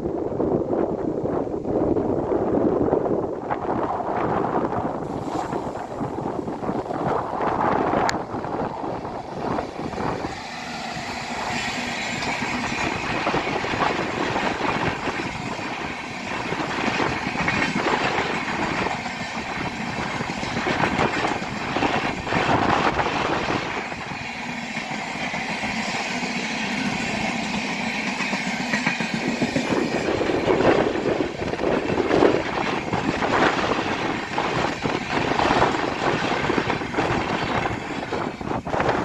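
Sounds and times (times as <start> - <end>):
moving train carriages noise: 0.0 - 39.0
train wheels clicking over rail joints: 4.6 - 39.0.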